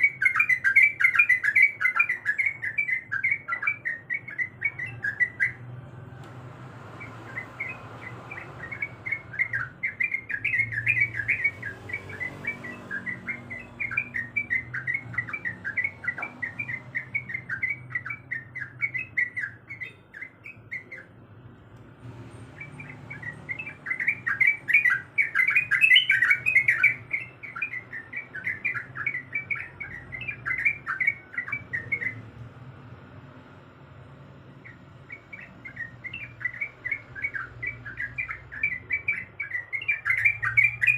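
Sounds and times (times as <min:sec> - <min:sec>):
bird singing chattering notes: 0:00.0 - 0:06.0, 0:06.9 - 0:33.0, 0:33.9 - 0:40.9.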